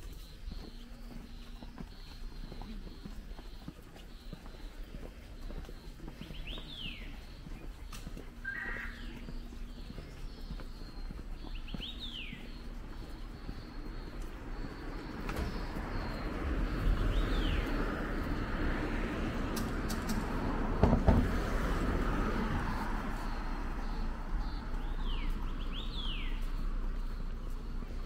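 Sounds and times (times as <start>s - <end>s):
birds whistling: 0.0s - 18.6s, 22.1s - 28.0s.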